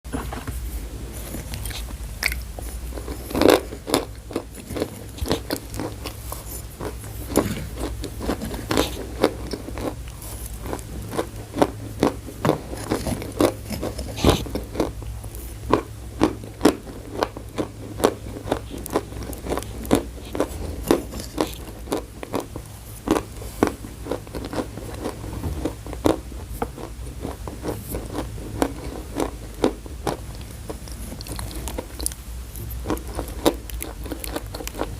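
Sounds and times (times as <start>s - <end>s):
faint low hum: 0.1s - 34.9s
person chewing chalk crunches: 1.1s - 34.9s.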